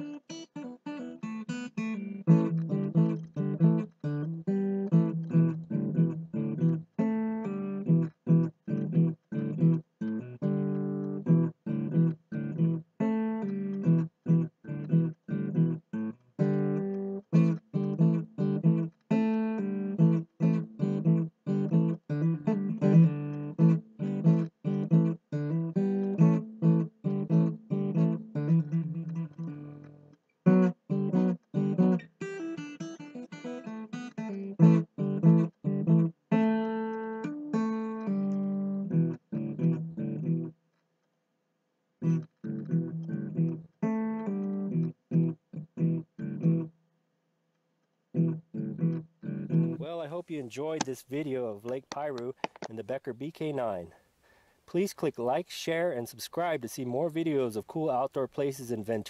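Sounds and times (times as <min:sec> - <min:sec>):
acoustic guitar music: 0:00.0 - 0:40.8, 0:42.0 - 0:46.8, 0:48.1 - 0:59.0.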